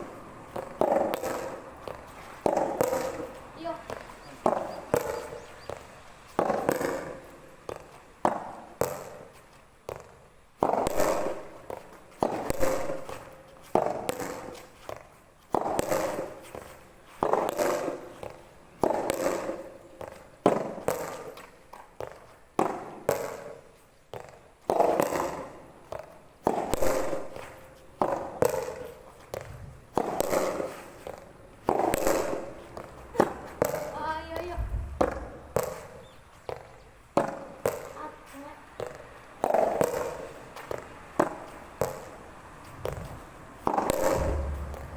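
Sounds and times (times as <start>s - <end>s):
rackets striking tennis ball: 0.0s - 44.9s.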